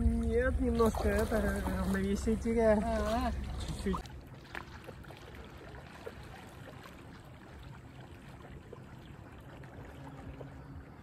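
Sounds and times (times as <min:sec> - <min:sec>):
lake waves lapping: 0:00.0 - 0:11.0.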